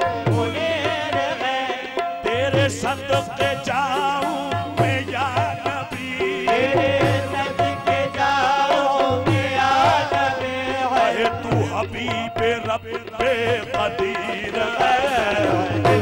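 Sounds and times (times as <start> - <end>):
harmonium melody: 0.0 - 16.0.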